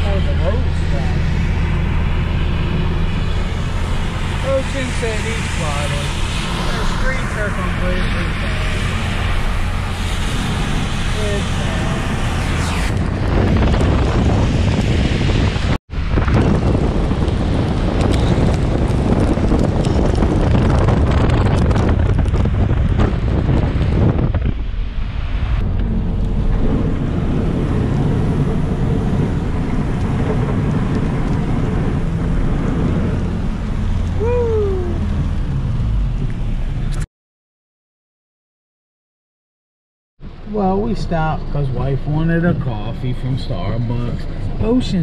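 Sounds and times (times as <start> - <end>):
wind buffeting microphone: 0.0 - 36.8.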